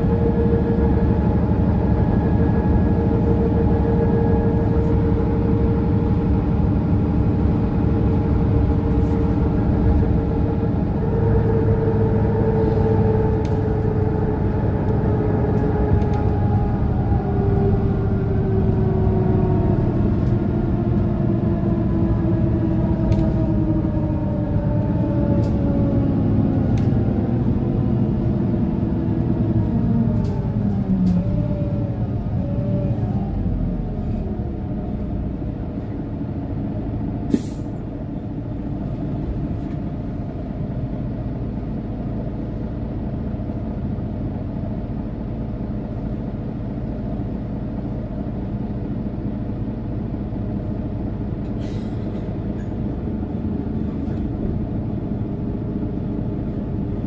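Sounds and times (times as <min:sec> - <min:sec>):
bus engine running: 0:00.0 - 0:57.0
rumbling road noise: 0:00.0 - 0:57.0.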